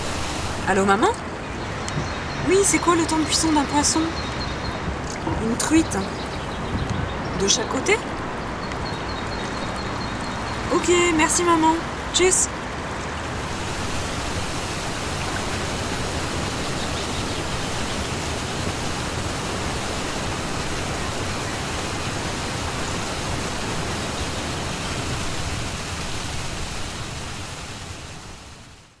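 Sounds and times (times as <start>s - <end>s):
river water rushing: 0.0s - 28.6s.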